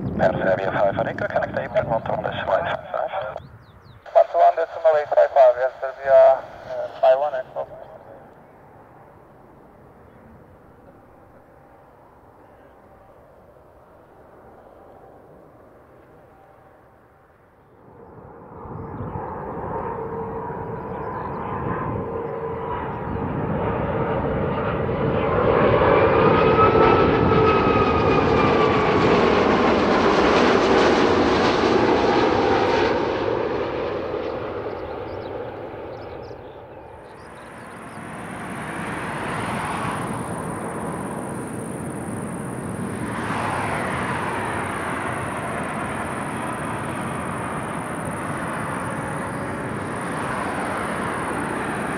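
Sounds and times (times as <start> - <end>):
jet engine whine: 0.0 - 51.9
jet engines landing: 0.0 - 51.9.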